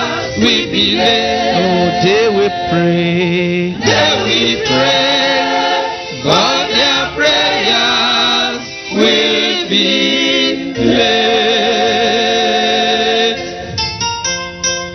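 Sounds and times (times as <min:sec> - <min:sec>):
gospel choir singing: 0:00.0 - 0:13.7.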